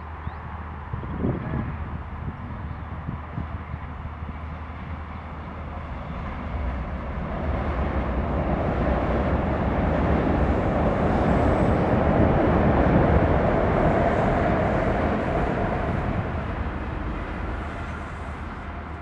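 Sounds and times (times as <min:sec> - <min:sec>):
train rumbling over steel bridge: 0:00.0 - 0:19.0.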